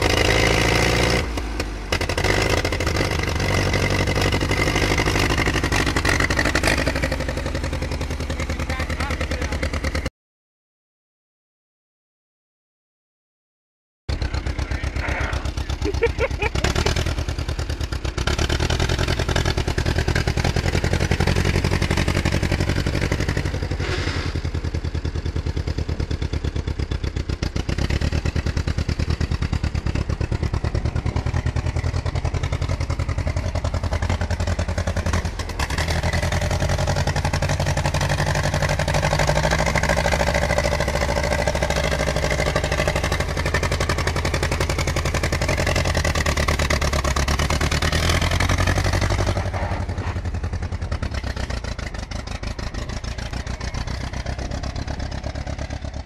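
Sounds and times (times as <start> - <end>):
tug engine running: 0.0 - 10.1, 14.1 - 56.0.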